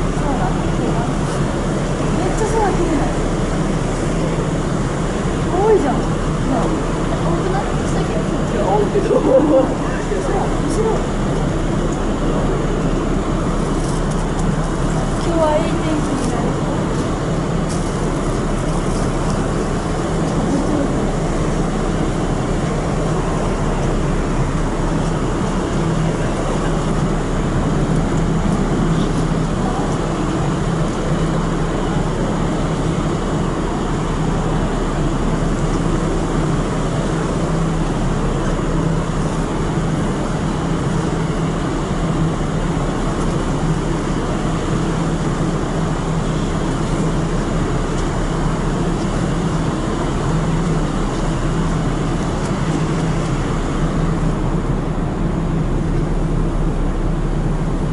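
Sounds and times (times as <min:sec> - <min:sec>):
ship engine hum: 0:00.0 - 0:57.9
wind and water rushing: 0:00.0 - 0:57.9.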